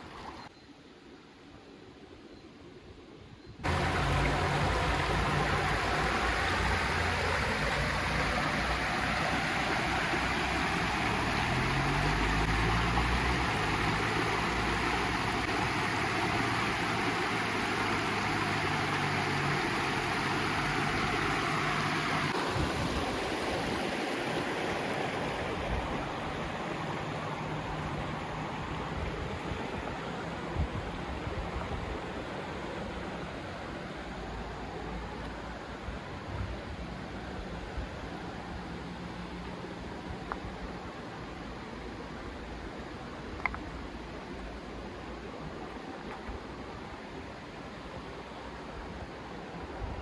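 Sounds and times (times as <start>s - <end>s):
river rushing over stones: 3.6s - 50.0s.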